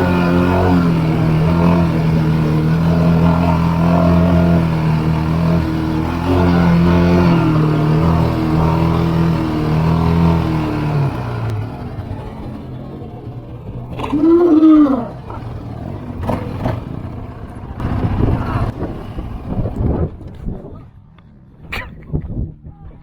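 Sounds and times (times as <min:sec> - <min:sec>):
atv engine revving: 0:00.0 - 0:21.7.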